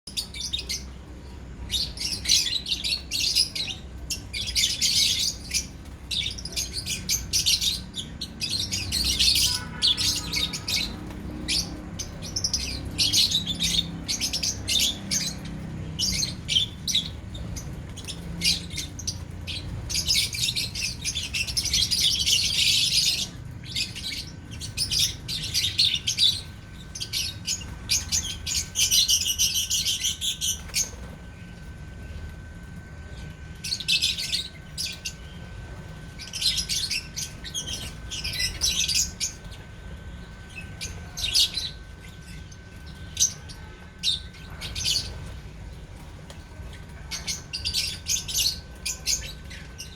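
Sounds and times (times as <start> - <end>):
lovebirds chattering: 0.1 - 49.9.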